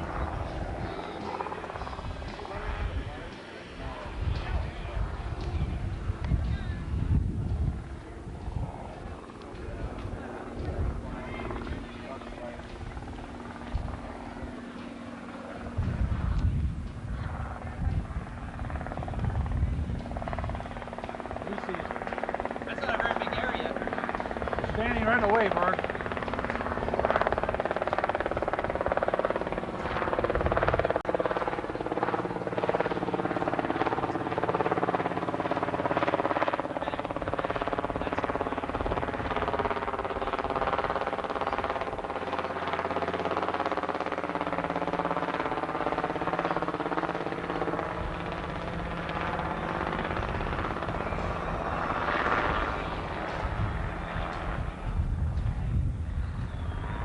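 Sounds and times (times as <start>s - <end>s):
helicopter flying overhead: 0.0s - 57.0s.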